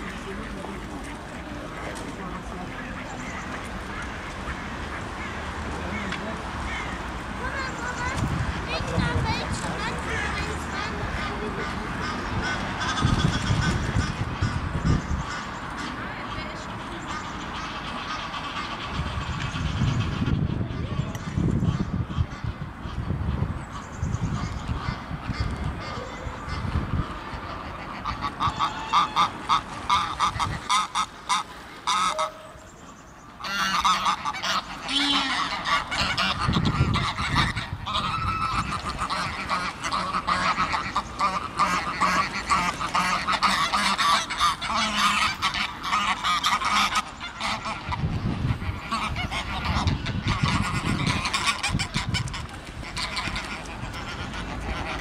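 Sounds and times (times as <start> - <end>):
geese honking and cackling: 0.0 - 55.0.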